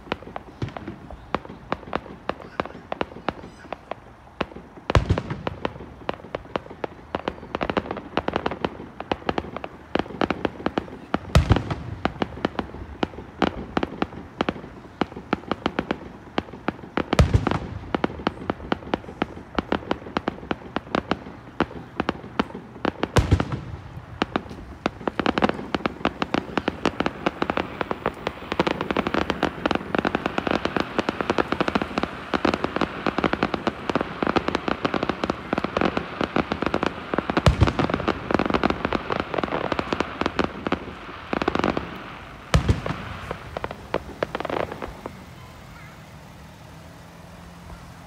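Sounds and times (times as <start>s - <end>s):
firework shells booming: 0.0s - 48.0s
fireworks crackling: 0.0s - 48.0s.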